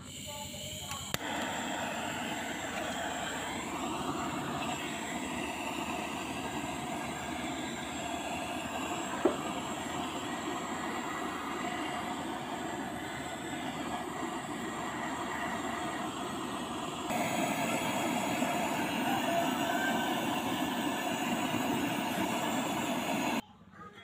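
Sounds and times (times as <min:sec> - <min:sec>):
blowtorch hissing: 0:00.0 - 0:23.4.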